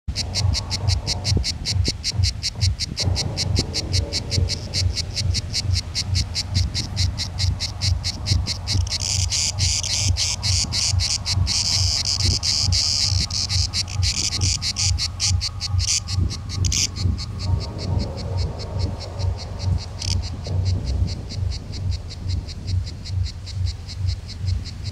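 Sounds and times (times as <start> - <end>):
cicada buzzing clicks: 0.1 - 24.9.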